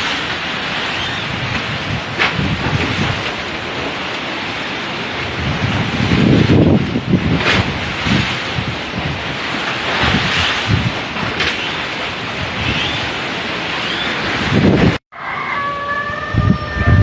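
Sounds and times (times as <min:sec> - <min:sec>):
strong gusting wind on microphone: 0:00.0 - 0:17.0.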